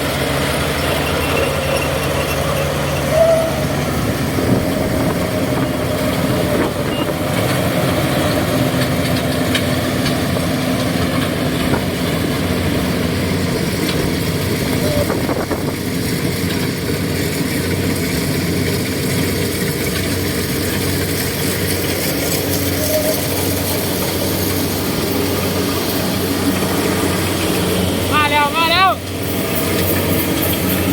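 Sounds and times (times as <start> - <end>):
combine harvester drone: 0.0 - 30.9.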